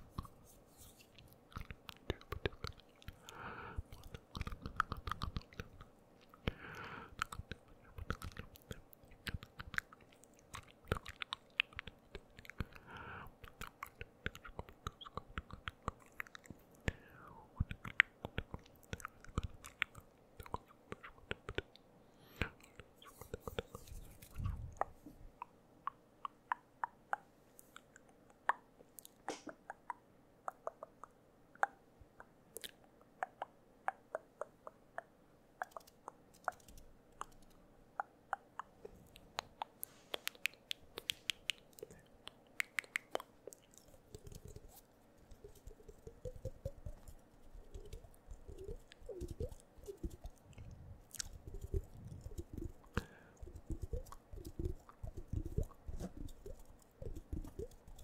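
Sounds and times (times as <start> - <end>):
wet mouth smacking: 0.0 - 17.0, 17.6 - 21.8, 22.4 - 58.0
tongue and lip clicks: 0.0 - 58.0.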